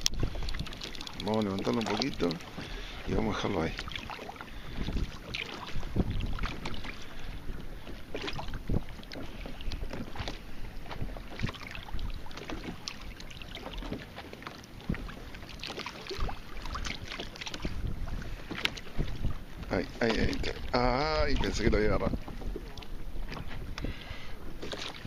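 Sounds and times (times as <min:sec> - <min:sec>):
wind rumble on microphone: 0:00.0 - 0:12.8, 0:16.2 - 0:25.0
small waves lapping against hull: 0:00.0 - 0:25.0.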